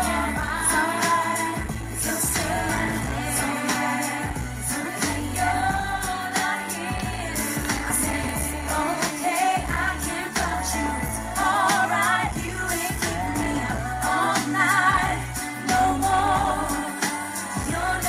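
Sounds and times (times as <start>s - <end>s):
pop music with bass and drums: 0.0s - 18.0s
women singing pop vocals: 0.0s - 18.0s.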